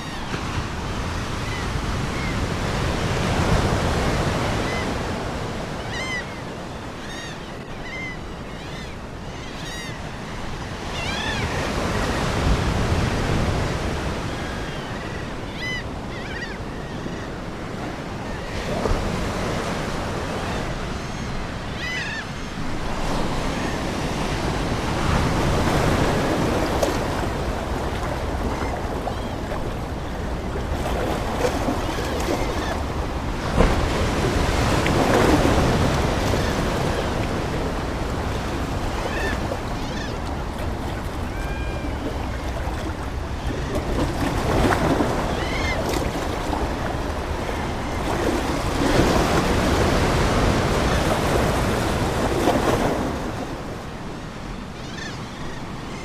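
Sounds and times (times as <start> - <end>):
ocean surf washing ashore: 0.0 - 8.1, 9.6 - 56.0
seagulls calling: 0.0 - 12.4, 13.9 - 56.0.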